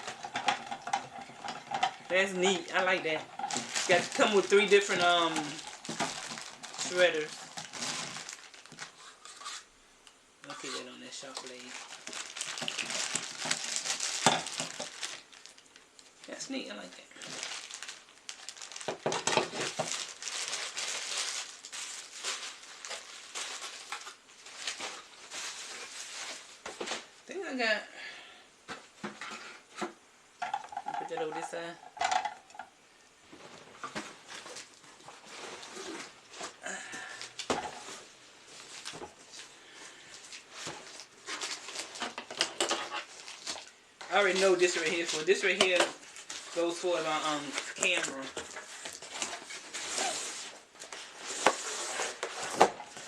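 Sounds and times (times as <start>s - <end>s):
packaging crinkling and rustling: 0.0s - 9.7s, 10.5s - 27.2s, 33.3s - 53.0s.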